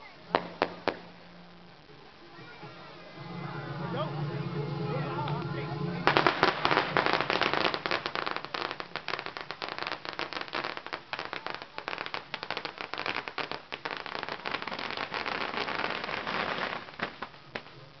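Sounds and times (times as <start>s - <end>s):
firecrackers crackling: 0.0s - 18.0s.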